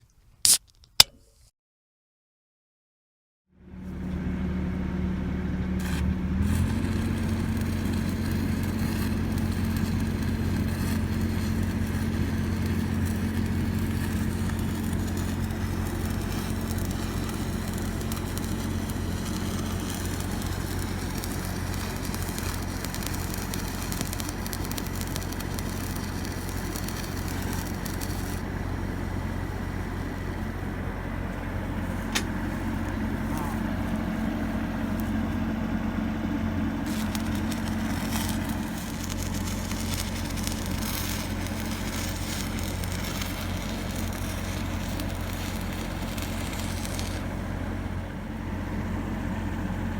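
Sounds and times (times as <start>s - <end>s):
engine-driven welder running: 3.6s - 49.9s
arc welding crackle: 5.8s - 35.4s, 36.8s - 48.1s.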